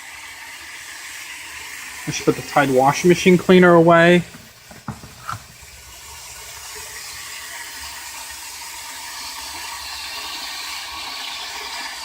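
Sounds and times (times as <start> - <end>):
water pouring into washer tub: 0.0 - 12.0.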